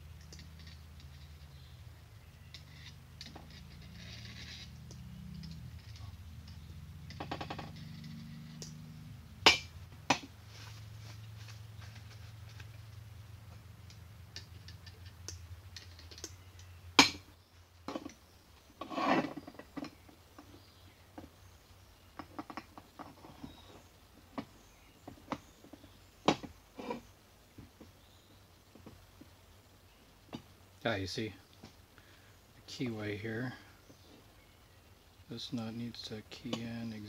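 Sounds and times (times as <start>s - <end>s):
faint low hum: 0.0s - 37.0s
rustling: 0.0s - 37.0s.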